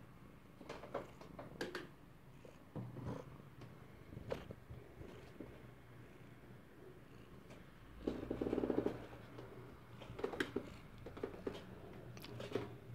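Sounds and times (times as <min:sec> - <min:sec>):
cat purring: 0:00.7 - 0:12.8.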